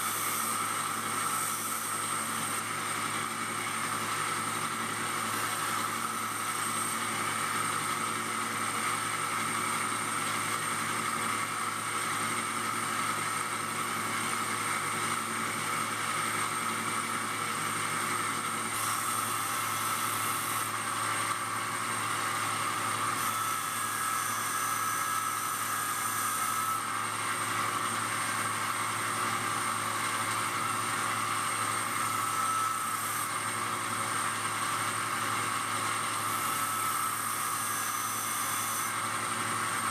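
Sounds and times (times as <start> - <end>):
disc grinder running: 0.0 - 39.9.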